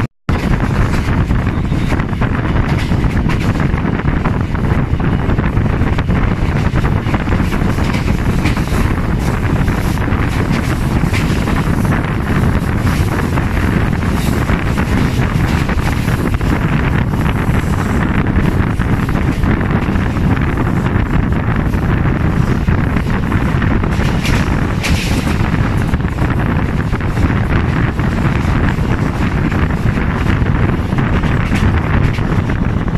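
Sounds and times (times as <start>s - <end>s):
train rumbling on rails: 0.0s - 32.9s
wind rushing on microphone: 0.0s - 32.9s.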